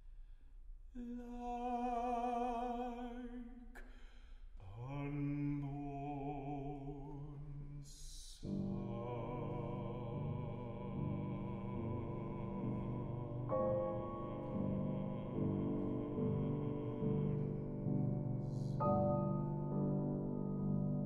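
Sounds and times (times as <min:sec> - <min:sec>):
baritone singing with vibrato: 0:01.0 - 0:03.8, 0:04.6 - 0:19.0.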